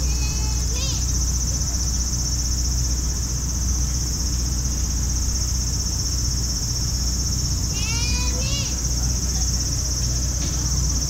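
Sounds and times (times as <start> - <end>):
cicadas buzzing: 0.0 - 11.0
steady low rumble: 0.0 - 11.0.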